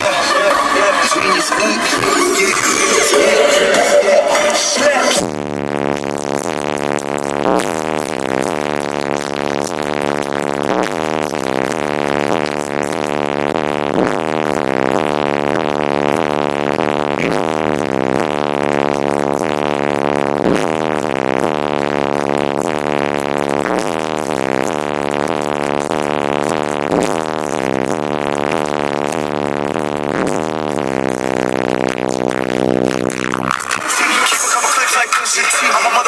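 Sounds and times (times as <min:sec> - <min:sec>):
loud bass-heavy music: 0:00.0 - 0:36.0.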